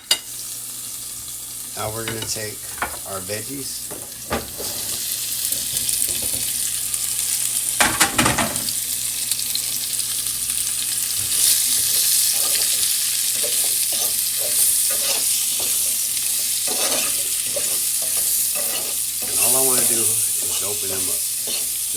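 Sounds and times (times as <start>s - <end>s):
food sizzling in a pan: 0.0s - 21.9s.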